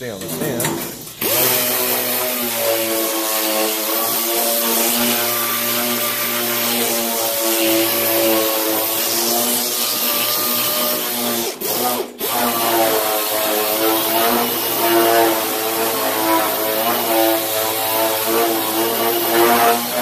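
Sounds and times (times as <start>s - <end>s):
air orbital sander running: 1.2s - 20.0s.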